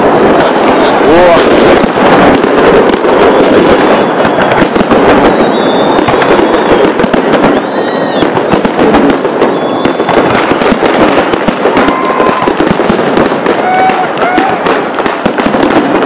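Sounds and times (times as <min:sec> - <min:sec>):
fireworks popping and crackling: 0:00.0 - 0:16.0
high firework whistles: 0:00.0 - 0:16.0.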